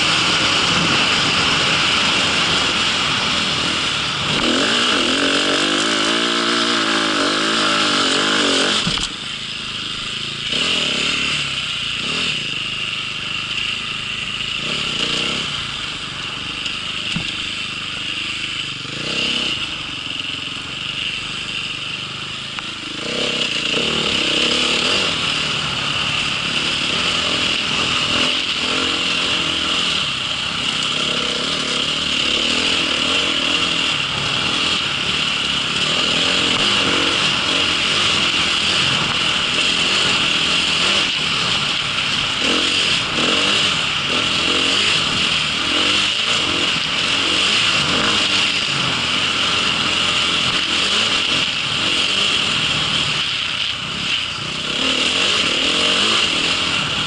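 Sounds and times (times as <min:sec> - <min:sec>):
constant high hiss: 0:00.0 - 0:57.0
small engine running: 0:00.0 - 0:57.0.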